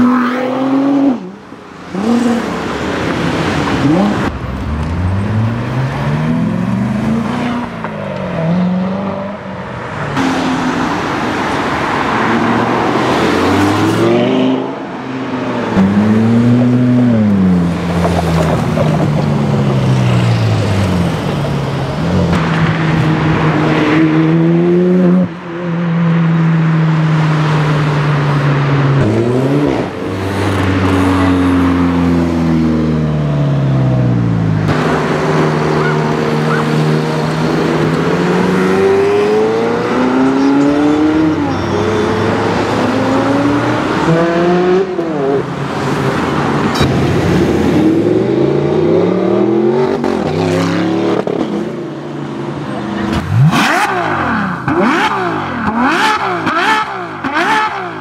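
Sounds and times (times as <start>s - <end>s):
sports car engines revving: 0.0s - 58.0s.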